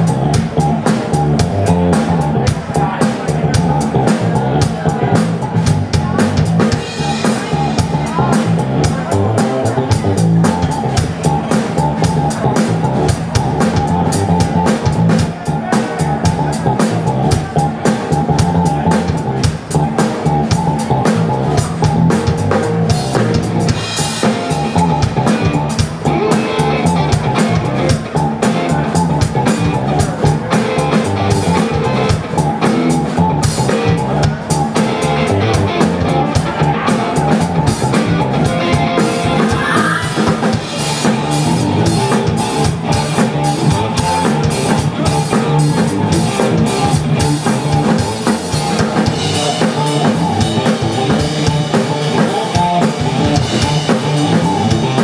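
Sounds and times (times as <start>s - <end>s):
amplified electric guitars: 0.0s - 55.0s
drum kit beat: 0.0s - 55.0s
live rock band: 0.0s - 55.0s.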